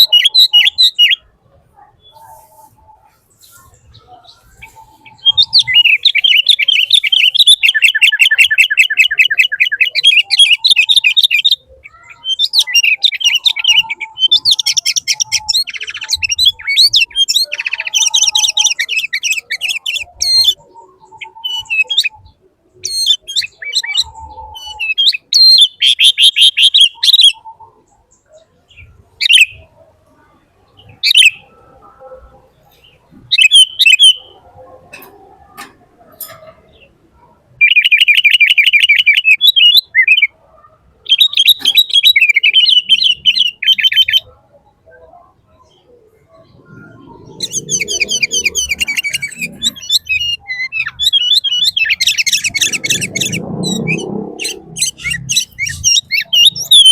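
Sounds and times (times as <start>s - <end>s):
bird chirping in trills: 0.0s - 35.4s, 36.1s - 56.9s.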